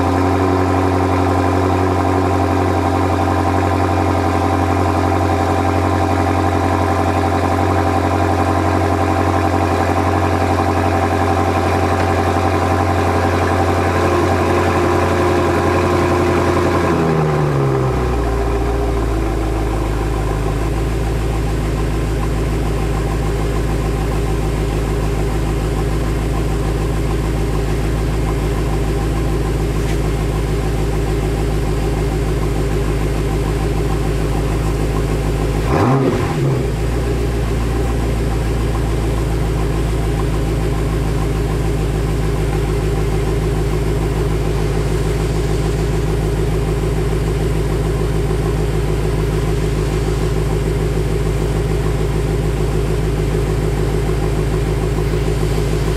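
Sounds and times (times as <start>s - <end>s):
car engine idling: 0.0s - 55.9s.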